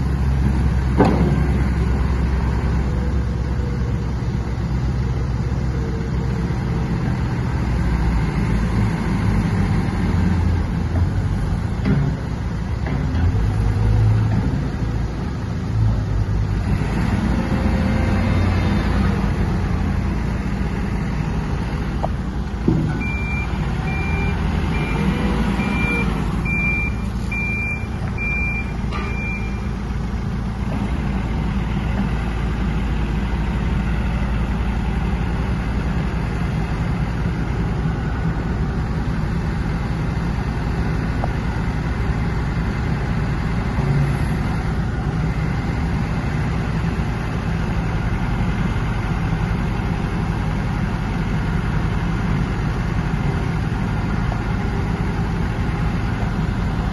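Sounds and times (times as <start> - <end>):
diesel excavator engine running: 0.0 - 56.9.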